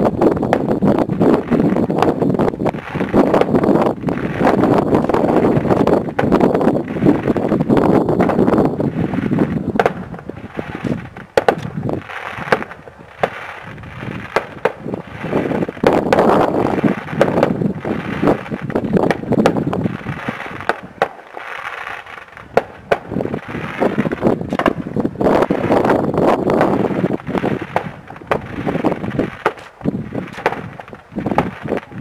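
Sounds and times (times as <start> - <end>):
fireworks bangs and cracks: 0.0 - 32.0
rushing haze of sound: 0.0 - 32.0.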